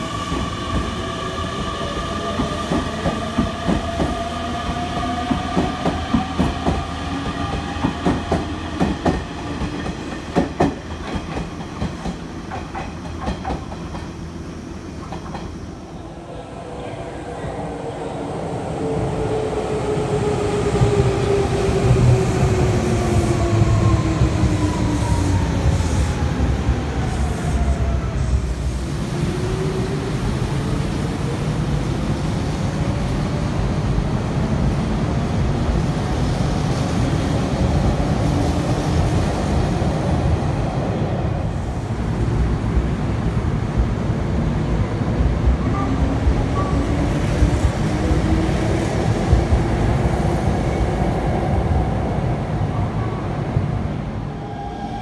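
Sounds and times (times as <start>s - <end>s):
train wheels rumbling on rail: 0.0s - 16.1s, 16.8s - 55.0s.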